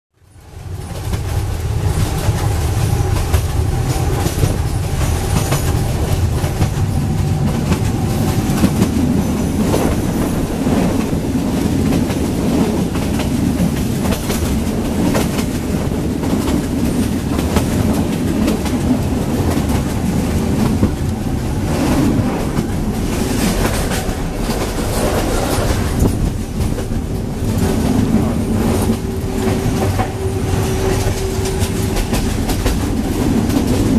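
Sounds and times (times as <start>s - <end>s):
train rattle and rumble: 0.2s - 33.9s
wheels clacking over rail joints: 0.7s - 33.9s.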